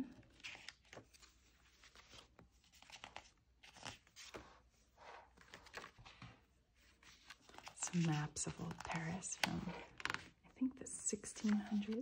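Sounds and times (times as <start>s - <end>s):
paper pages rustling and turning: 0.1s - 12.0s.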